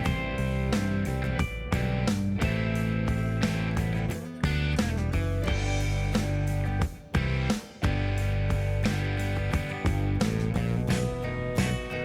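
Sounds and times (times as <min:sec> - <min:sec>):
instrumental guitar music: 0:00.0 - 0:12.0.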